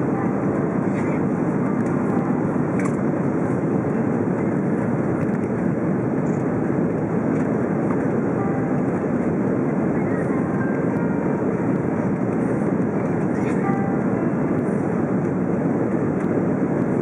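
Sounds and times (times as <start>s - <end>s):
airplane cabin roar: 0.0s - 17.0s.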